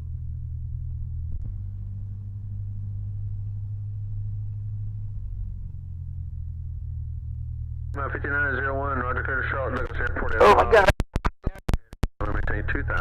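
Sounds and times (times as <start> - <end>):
muffled airplane engine drone: 0.0 - 10.9, 11.5 - 13.0.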